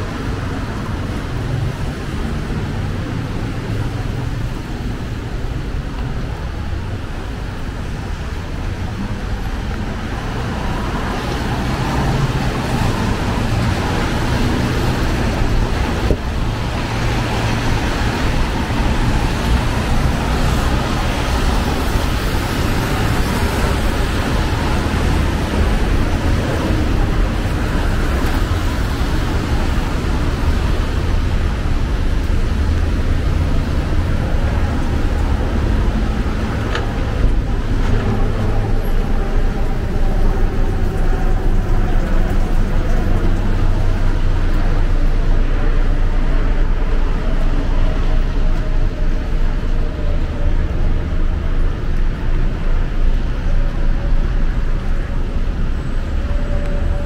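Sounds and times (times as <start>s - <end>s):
cars driving on wet road: 0.0s - 57.0s.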